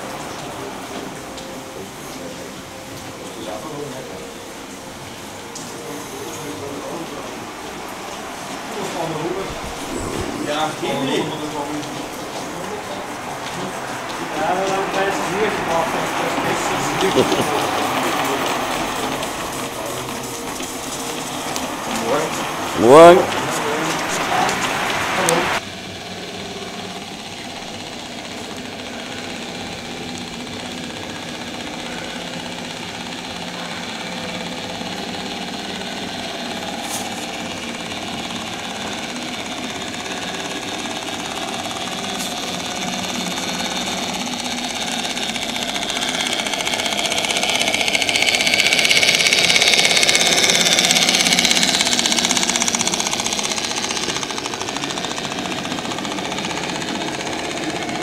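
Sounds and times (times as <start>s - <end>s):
model train rattling on track: 0.0s - 58.0s.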